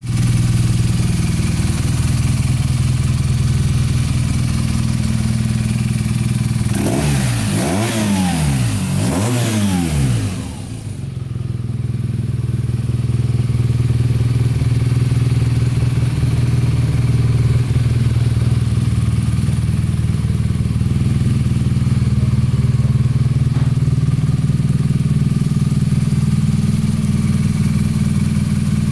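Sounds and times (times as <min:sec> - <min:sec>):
motorcycle engine idling: 0:00.0 - 0:28.9
motorcycle engine revving: 0:00.0 - 0:28.9.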